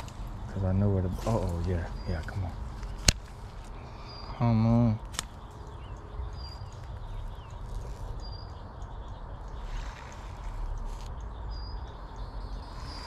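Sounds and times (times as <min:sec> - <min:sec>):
high bird chirps: 0:00.0 - 0:13.0.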